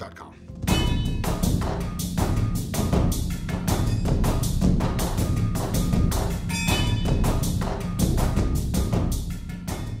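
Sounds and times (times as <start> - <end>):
music with drum beat: 0.6 - 10.0.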